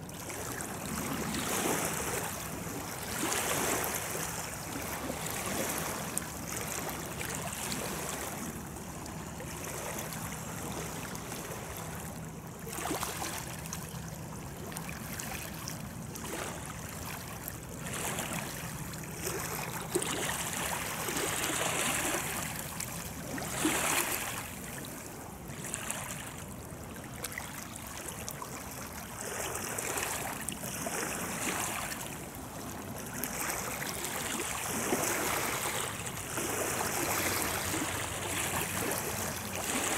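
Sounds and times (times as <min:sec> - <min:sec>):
river water lapping at shore: 0:00.0 - 0:39.9.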